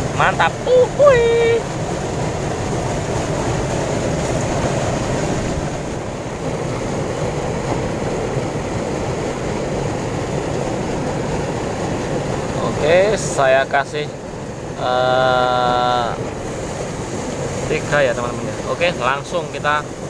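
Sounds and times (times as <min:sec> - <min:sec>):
water rushing down a concrete canal: 0:00.0 - 0:20.0.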